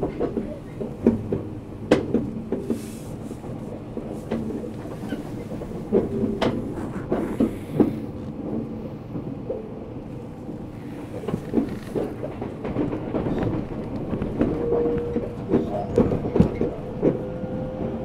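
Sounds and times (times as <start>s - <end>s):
wheels clacking on track: 0.0s - 9.8s, 10.4s - 18.0s
train running hum: 0.0s - 18.0s.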